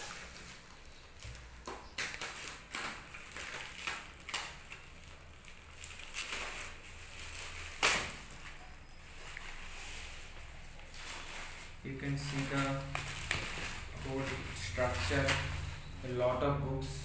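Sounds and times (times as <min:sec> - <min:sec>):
plastic wrapping crackling: 0:00.0 - 0:16.5.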